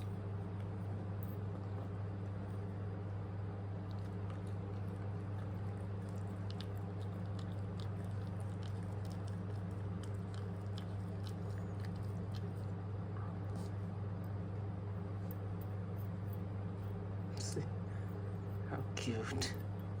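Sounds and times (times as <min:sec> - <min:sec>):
puppy eating: 0:00.0 - 0:20.0
steady low hum: 0:00.0 - 0:20.0.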